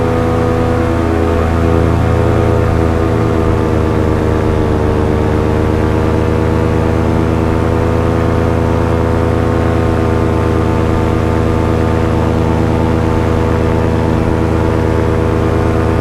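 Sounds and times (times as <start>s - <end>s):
small aircraft engine droning: 0.0s - 16.0s.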